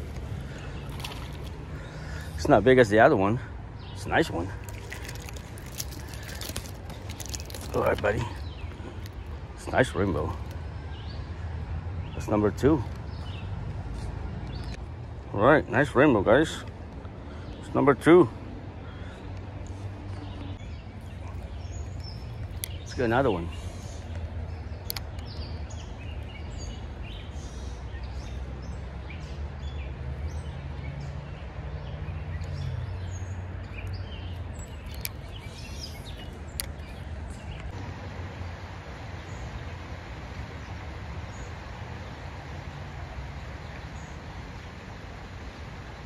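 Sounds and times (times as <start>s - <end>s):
flowing creek water: 0.0s - 12.5s, 15.4s - 46.0s
birds chirping: 0.0s - 46.0s.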